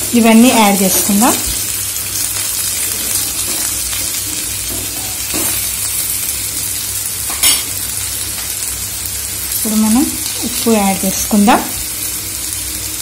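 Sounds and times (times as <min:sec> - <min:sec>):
okra sizzling in hot oil: 0:00.0 - 0:13.0.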